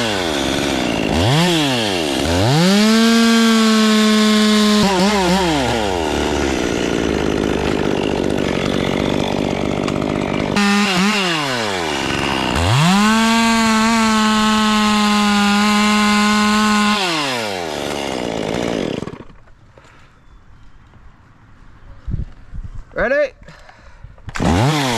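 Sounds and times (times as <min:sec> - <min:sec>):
chainsaw cutting wood: 0:00.0 - 0:19.6, 0:24.3 - 0:24.9.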